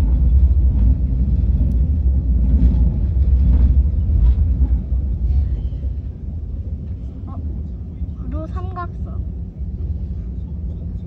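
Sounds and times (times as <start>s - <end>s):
train rumble inside cabin: 0.0s - 11.0s.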